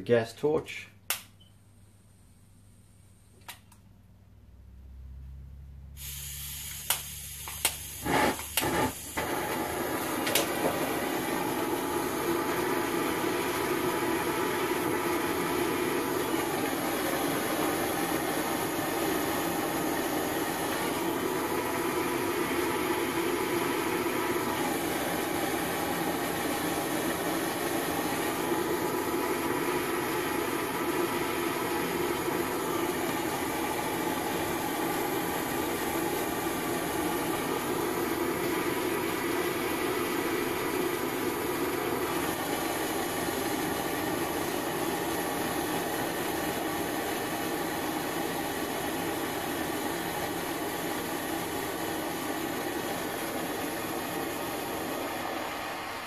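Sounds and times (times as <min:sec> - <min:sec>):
gas torch flame: 0:06.0 - 0:56.0.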